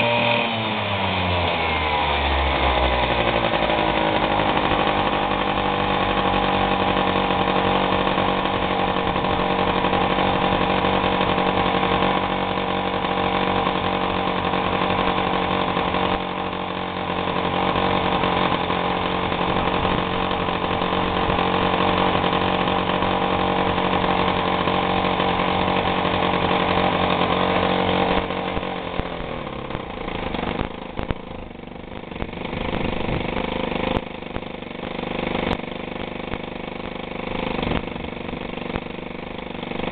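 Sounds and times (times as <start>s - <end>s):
moped engine running: 0.0s - 39.9s.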